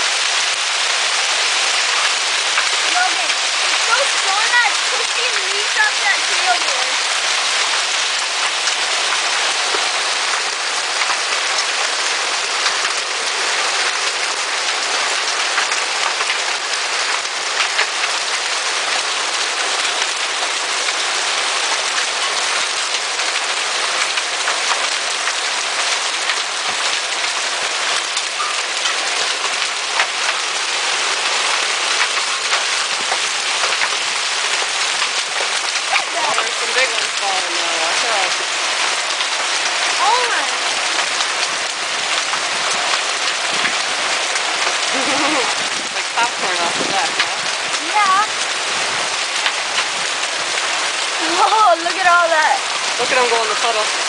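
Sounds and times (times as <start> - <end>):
hailstones ticking on hard surfaces: 0.0 - 54.0
heavy rain hissing: 0.0 - 54.0.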